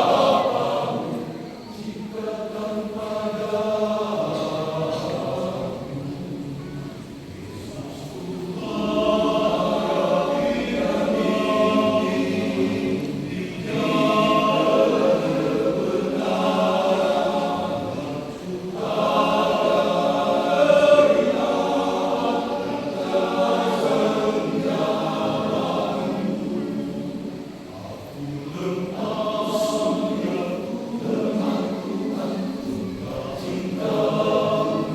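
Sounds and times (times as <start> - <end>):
men's choir singing a hymn: 0.0 - 34.9.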